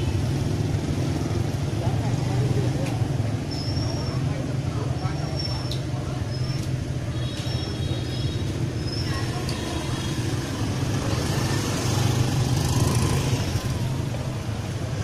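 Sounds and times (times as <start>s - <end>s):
motorbike engines running: 0.0s - 15.0s.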